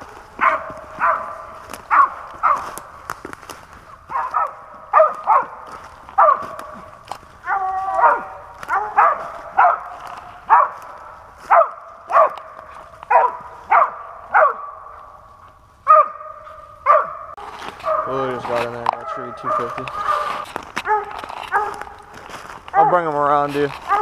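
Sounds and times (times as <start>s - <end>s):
dog barking: 0.4s - 2.8s, 4.1s - 15.0s, 15.9s - 22.0s, 22.7s - 23.1s.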